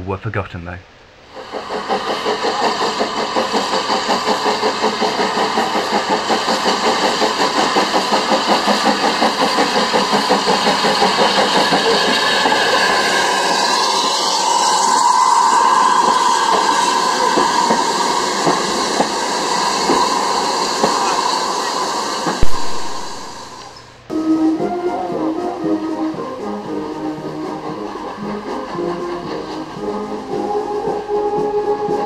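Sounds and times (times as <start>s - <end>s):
steam locomotive chuffing: 1.2s - 32.0s.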